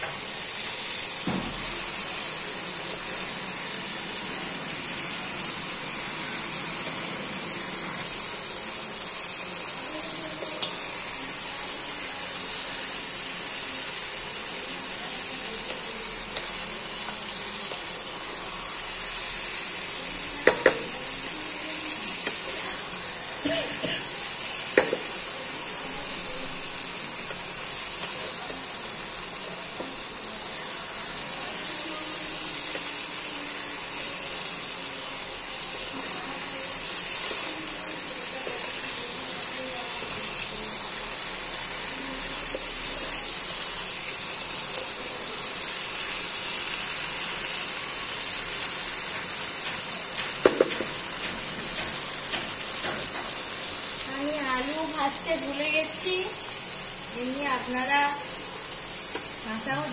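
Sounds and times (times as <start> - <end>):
food sizzling in an oiled pan: 0.0 - 59.9.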